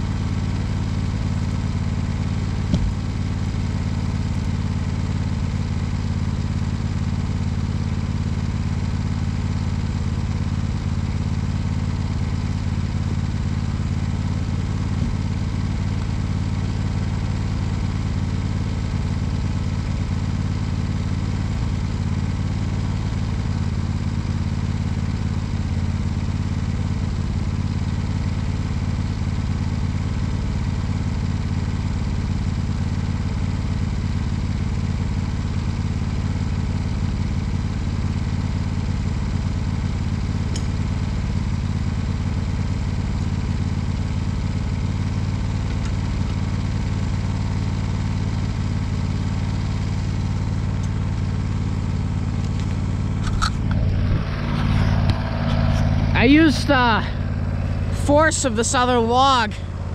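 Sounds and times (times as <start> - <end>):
lawn tractor engine idling: 0.0 - 59.9.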